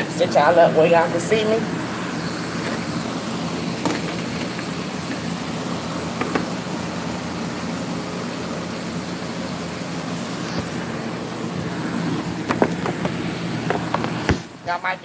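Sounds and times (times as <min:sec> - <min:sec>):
electric fan blowing: 0:00.0 - 0:15.0.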